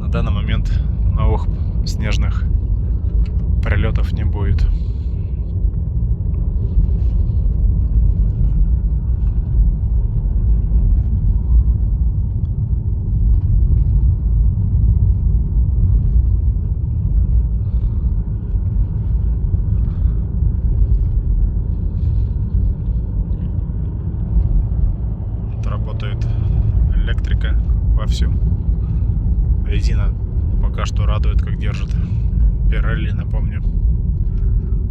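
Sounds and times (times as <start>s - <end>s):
road and tyre noise in car: 0.0s - 34.9s.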